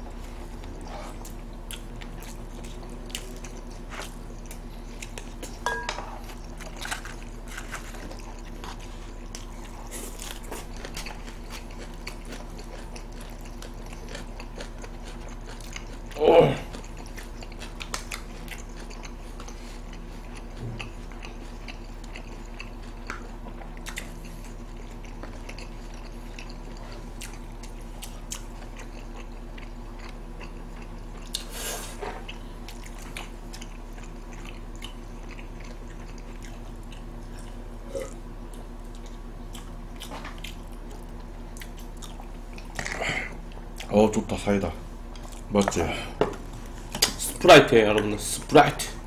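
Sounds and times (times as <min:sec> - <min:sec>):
people chewing food: 0:00.0 - 0:49.0
steady low hum: 0:00.0 - 0:49.0.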